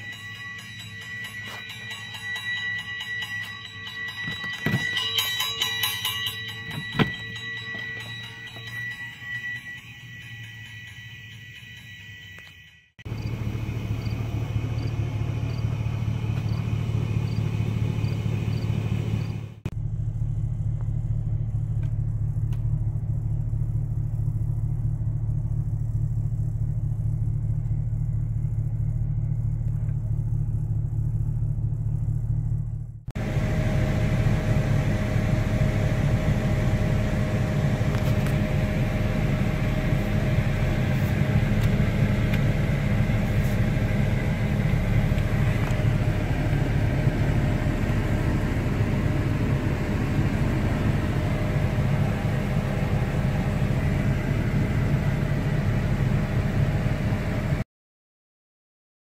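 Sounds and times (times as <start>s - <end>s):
car engine idling: 0.0s - 57.6s.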